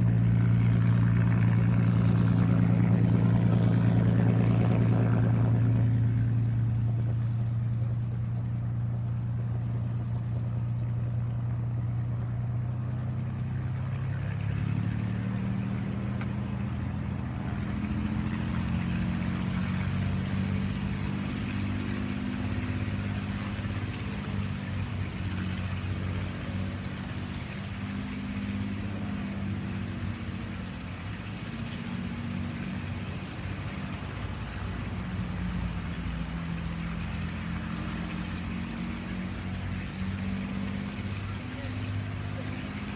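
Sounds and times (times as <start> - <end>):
piston aircraft engine drone: 0.0 - 42.9.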